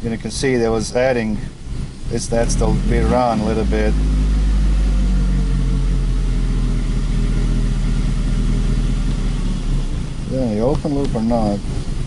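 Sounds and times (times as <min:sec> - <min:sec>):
car engine hum: 0:00.0 - 0:12.0
road noise inside car: 0:00.0 - 0:12.0.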